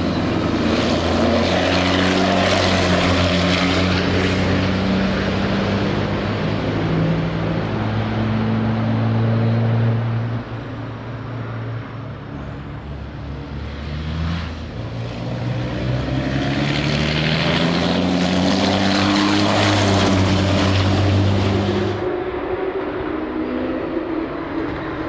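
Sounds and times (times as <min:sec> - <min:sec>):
racing truck engines droning past: 0:00.0 - 0:25.0
truck accelerating: 0:00.0 - 0:25.0.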